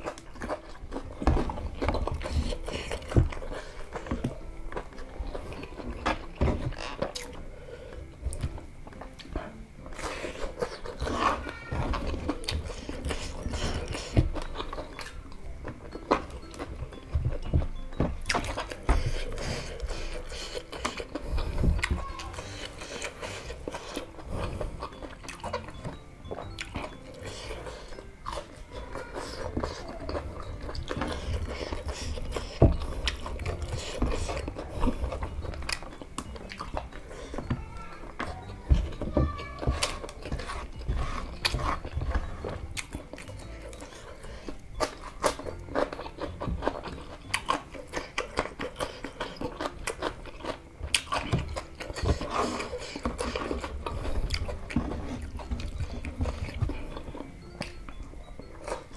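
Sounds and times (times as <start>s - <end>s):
person chewing crispy food: 0.0s - 58.9s.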